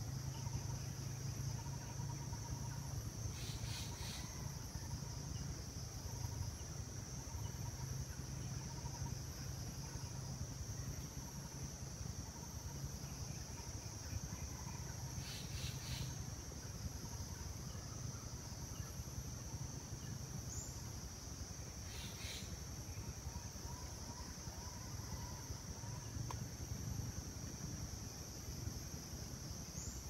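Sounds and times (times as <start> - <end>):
high-pitched insect drone: 0.0 - 30.0.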